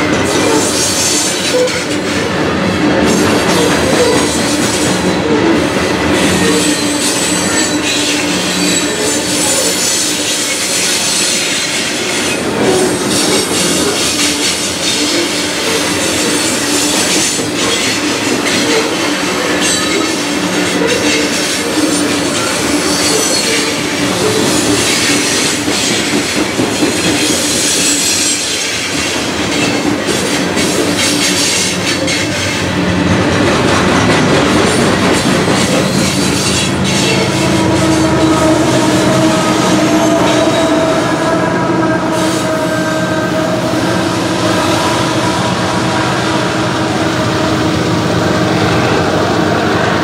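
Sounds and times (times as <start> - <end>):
wheels squealing on rails: 0.0 - 2.4, 3.0 - 32.7, 34.0 - 50.0.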